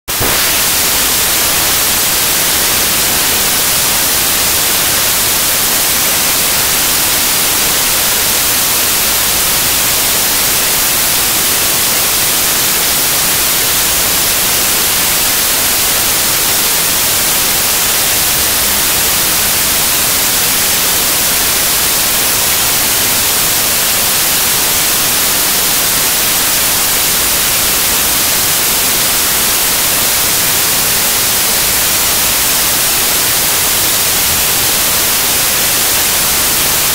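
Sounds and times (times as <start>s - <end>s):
loud static hiss: 0.0s - 36.9s.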